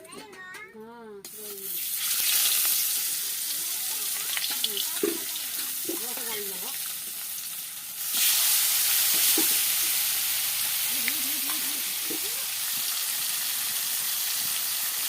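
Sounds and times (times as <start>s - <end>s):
fish sizzling in hot oil: 1.2s - 15.0s.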